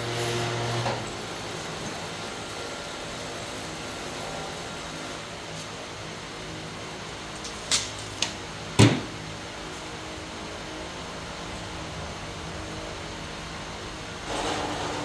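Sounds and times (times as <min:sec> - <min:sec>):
steady fan-like whir: 0:00.0 - 0:15.0.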